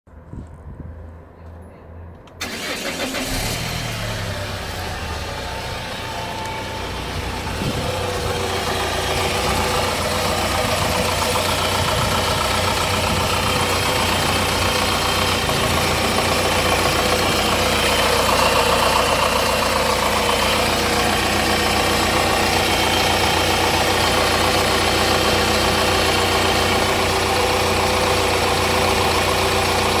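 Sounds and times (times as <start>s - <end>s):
steady tones over engine: 0.8s - 30.0s
diesel engine starting and idling: 2.2s - 30.0s.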